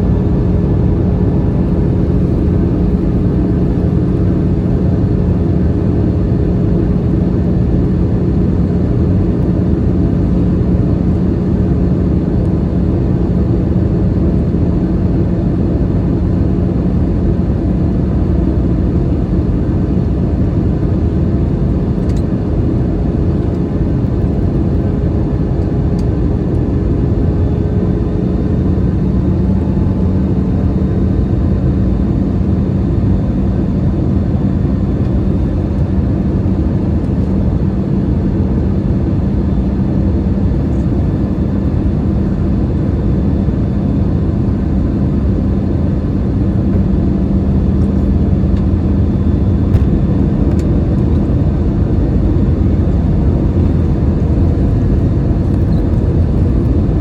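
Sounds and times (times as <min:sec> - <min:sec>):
airflow rush in cabin: 0:00.0 - 0:57.0
low engine hum: 0:00.0 - 0:57.0.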